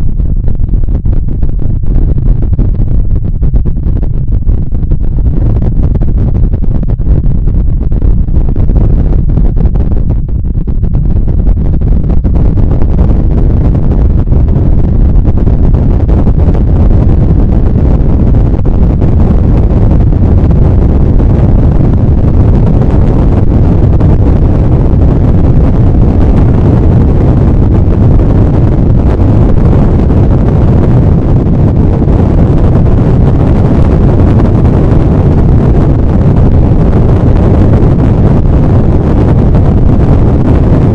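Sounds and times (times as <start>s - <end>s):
deep rocket exhaust roar: 0.0s - 40.9s.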